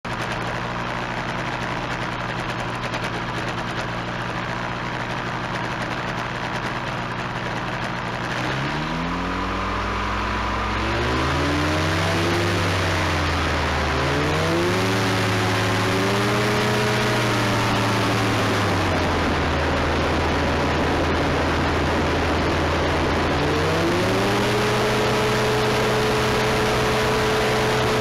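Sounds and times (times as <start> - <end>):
small aircraft engine revving: 0.0 - 28.0.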